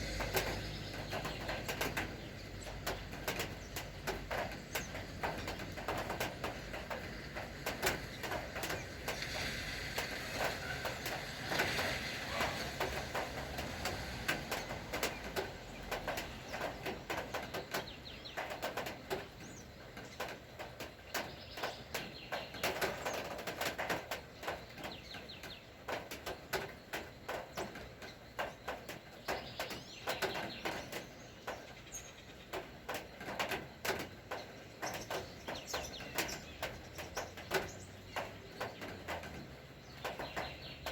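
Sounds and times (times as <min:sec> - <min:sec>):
faint birds calling: 0:00.0 - 0:40.9
rain tapping on surfaces: 0:00.0 - 0:40.9.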